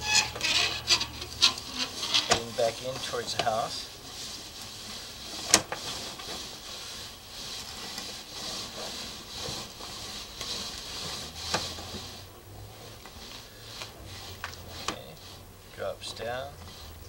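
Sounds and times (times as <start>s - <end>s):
cable rustling hiss in drain pipe: 0.0s - 17.0s.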